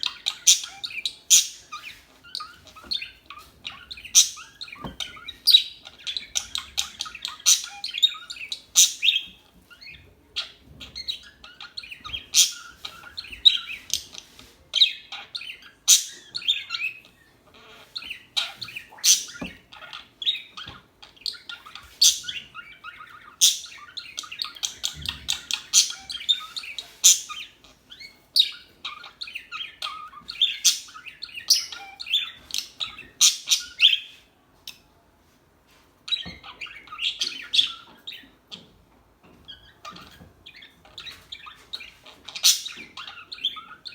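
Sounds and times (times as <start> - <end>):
budgerigars chirping: 0.0 - 34.8, 36.1 - 43.9.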